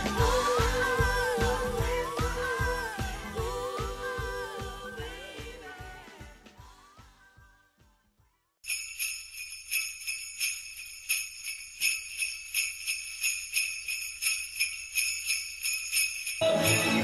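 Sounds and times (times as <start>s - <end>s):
jingle bells shaken: 0.0s - 5.5s, 8.6s - 17.0s.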